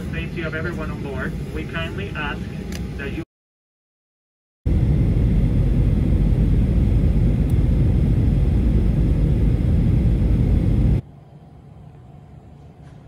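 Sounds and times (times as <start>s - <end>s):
jet airliner cabin noise: 0.0s - 3.2s, 4.7s - 13.0s.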